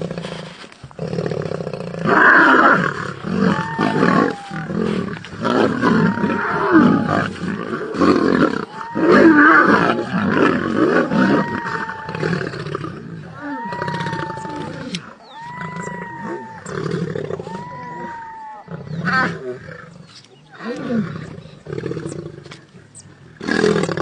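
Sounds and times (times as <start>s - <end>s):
lions snarling and growling: 0.0s - 24.0s.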